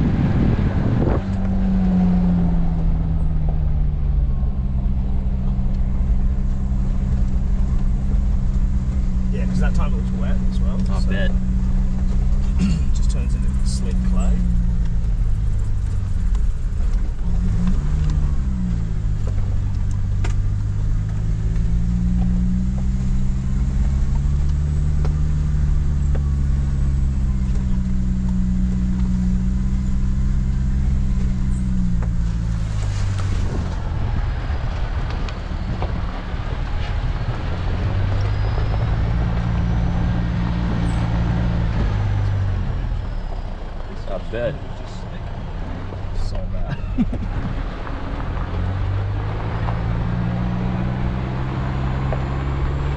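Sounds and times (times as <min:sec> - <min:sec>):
tyre and wind noise: 0:00.0 - 0:10.2, 0:14.4 - 0:44.0, 0:45.4 - 0:52.9
engine running at low revs: 0:00.0 - 0:52.9.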